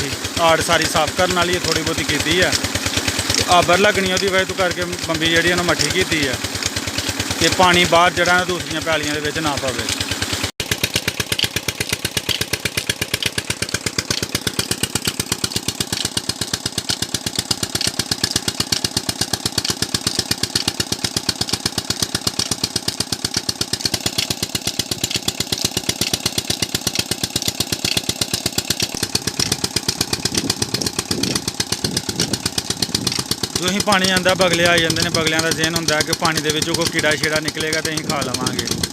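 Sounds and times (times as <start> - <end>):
diesel engine driving pump: 0.0 - 38.9.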